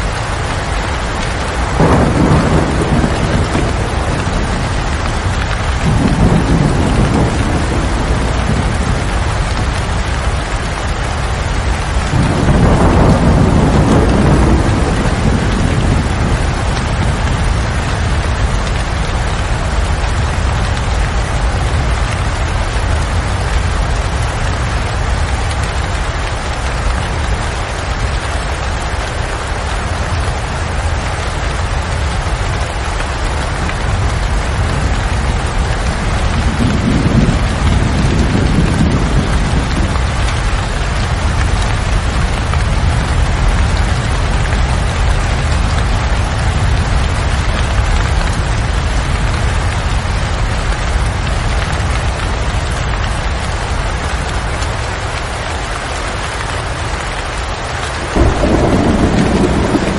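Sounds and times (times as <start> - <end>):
low rumble of thunder: 0.0 - 28.8, 29.6 - 55.3, 56.0 - 59.9
steady rain pouring: 0.0 - 59.9.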